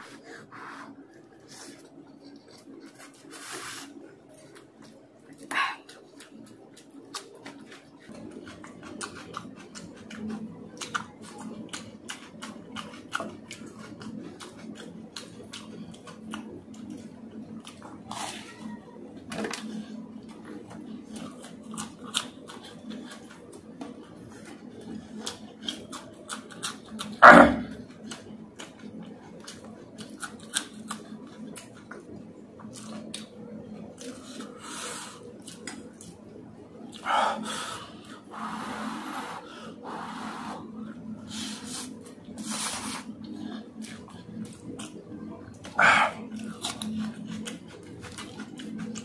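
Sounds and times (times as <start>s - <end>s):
chewing and crunching chillies: 0.0s - 49.0s
low steady hum: 0.0s - 49.0s.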